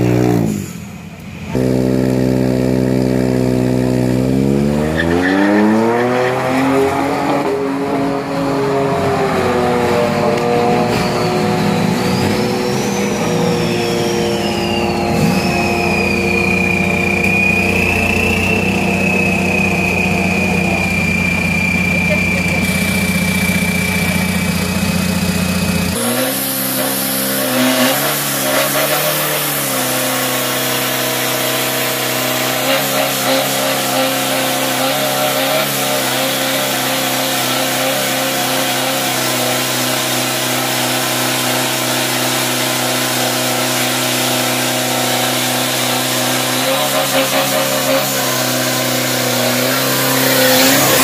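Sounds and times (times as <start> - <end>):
pickup engine revving high: 0.0 - 51.0
spinning tyres hissing: 0.0 - 51.0.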